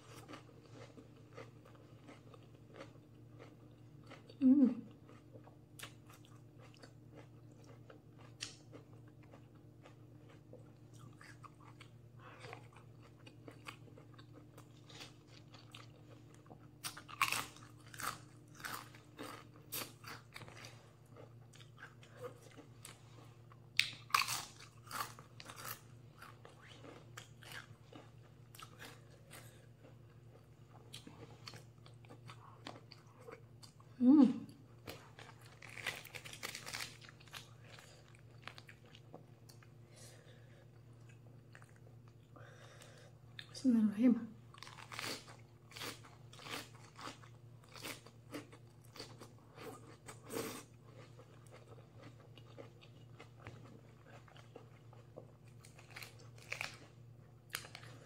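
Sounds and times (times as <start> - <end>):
crunchy chewing: 0.0 - 33.9, 34.8 - 43.5, 44.5 - 58.0
faint low hum: 0.0 - 58.0.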